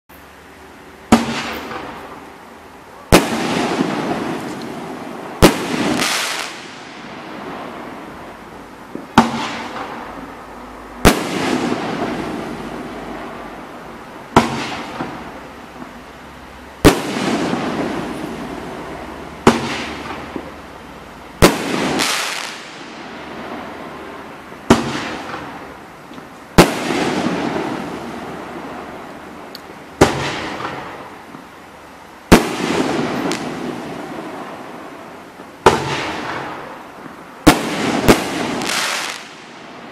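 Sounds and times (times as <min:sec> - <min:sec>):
rush of firework noise: 0:00.2 - 0:39.9
firework bangs: 0:01.1 - 0:02.3, 0:03.0 - 0:10.4, 0:11.0 - 0:16.0, 0:16.8 - 0:20.6, 0:21.4 - 0:31.5, 0:32.2 - 0:39.9.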